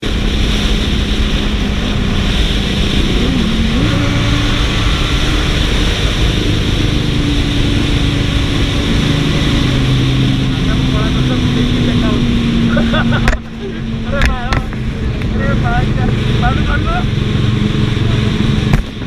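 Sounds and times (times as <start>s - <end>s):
motorcycle engine in a tunnel: 0.0s - 19.0s.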